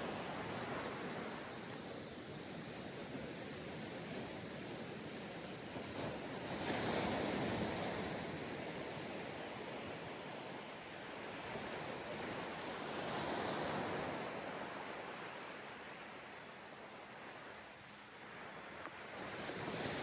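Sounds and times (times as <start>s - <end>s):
ocean waves breaking on sand: 0.0s - 20.0s.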